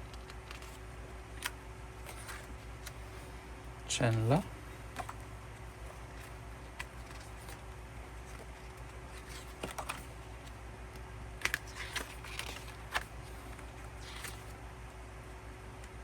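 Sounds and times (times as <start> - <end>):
paper rustling: 0.0 - 3.4, 4.0 - 14.6
steady low hum: 0.0 - 16.0.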